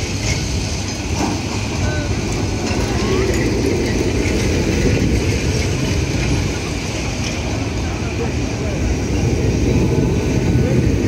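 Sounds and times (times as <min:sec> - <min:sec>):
tram rumbling past: 0:00.0 - 0:11.0.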